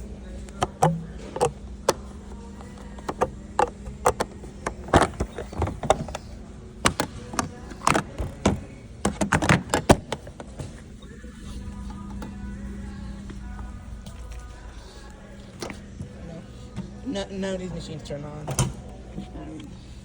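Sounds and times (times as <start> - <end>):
steady low hum: 0.0 - 20.0
washing machine doors clicking: 0.4 - 17.3, 18.1 - 19.2.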